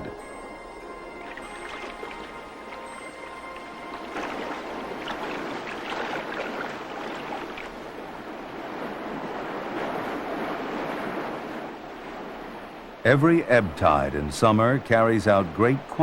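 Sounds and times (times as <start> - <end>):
rushing water underwater: 0.0 - 16.0.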